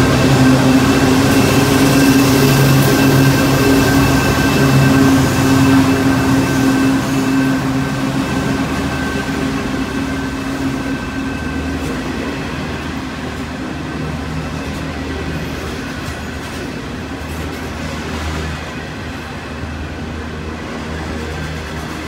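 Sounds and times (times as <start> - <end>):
diesel locomotive hum: 0.0 - 22.0
train wheels rumbling on rails: 0.0 - 22.0.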